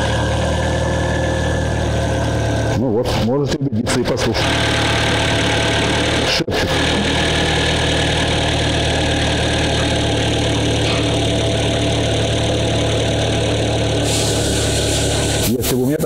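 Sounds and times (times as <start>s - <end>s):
car engine idling: 0.0s - 3.3s, 4.0s - 16.0s.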